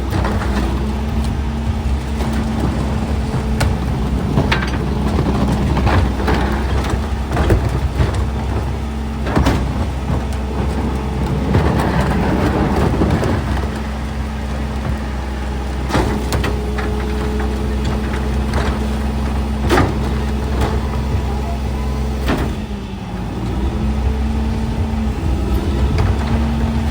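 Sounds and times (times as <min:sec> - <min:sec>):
knocks and clatter: 0:00.0 - 0:21.6, 0:23.7 - 0:26.9
diesel engine idling: 0:00.0 - 0:26.9.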